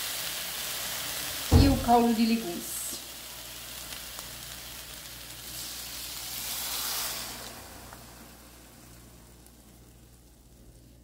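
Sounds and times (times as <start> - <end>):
broth sizzling in hot pan: 0.0 - 11.0.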